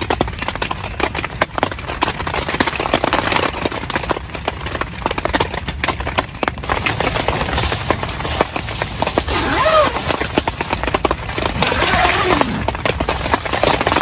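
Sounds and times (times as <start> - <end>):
heavy rain on a tent: 0.0 - 14.0.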